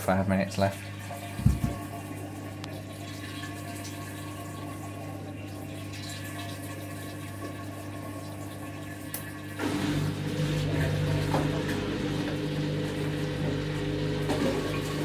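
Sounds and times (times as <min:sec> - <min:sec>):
drain pump humming: 0:00.0 - 0:15.0
water draining from drum: 0:00.7 - 0:15.0.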